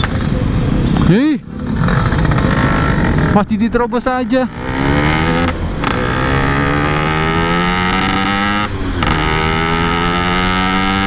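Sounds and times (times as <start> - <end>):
motorcycle engine revving: 1.0 - 11.0.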